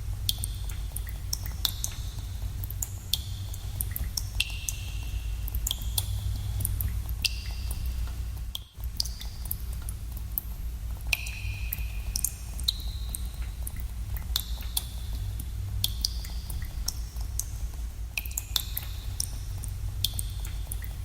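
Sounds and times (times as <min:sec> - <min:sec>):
steady low rumble: 0:00.0 - 0:21.0
water drops plinking in cave: 0:00.2 - 0:10.5, 0:11.1 - 0:21.0.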